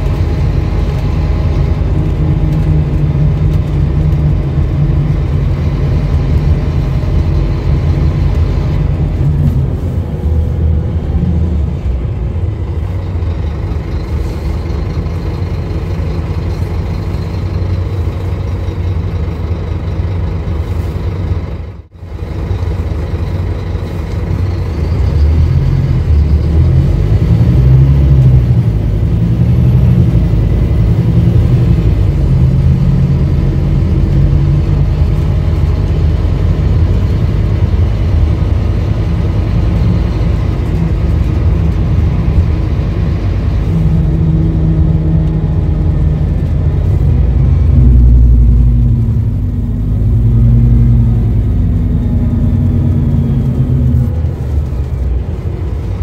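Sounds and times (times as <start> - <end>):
bus diesel engine accelerating: 0.0 - 56.0
tyre and road rumble: 0.0 - 56.0.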